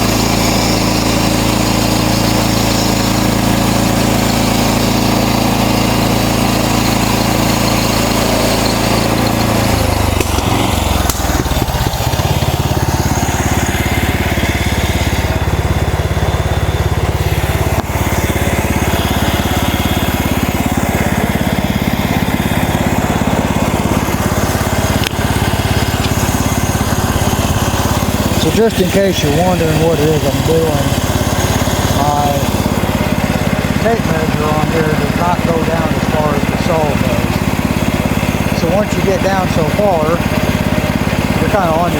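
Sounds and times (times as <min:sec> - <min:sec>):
sawmill gasoline engine running: 0:00.0 - 0:41.9.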